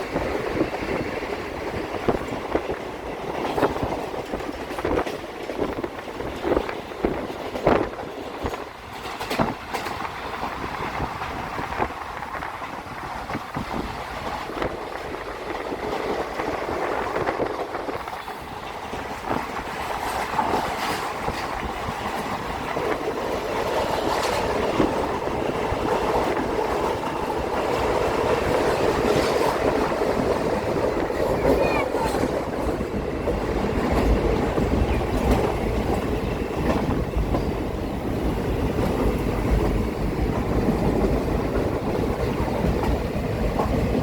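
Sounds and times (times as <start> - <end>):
train rattling rumble: 0.0 - 44.0.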